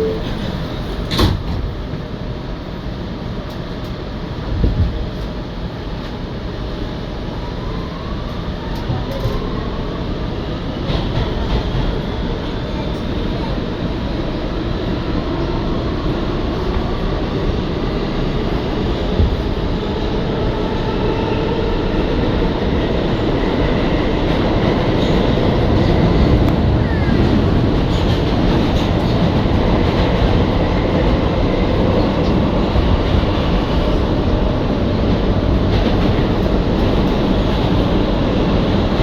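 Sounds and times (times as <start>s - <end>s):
rumble of wheels on rail: 0.0s - 39.0s.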